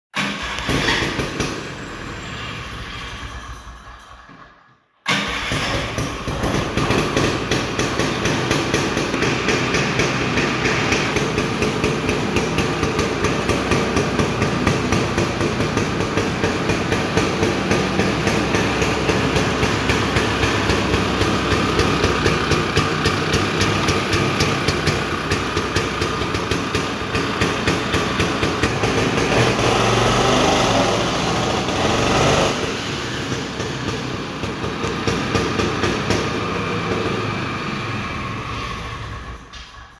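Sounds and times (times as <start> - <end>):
two-stroke engine idling: 5.4 - 38.2.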